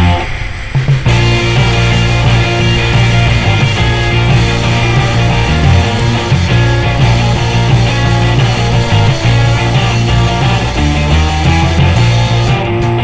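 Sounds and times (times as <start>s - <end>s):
loud rock music: 0.0s - 13.0s.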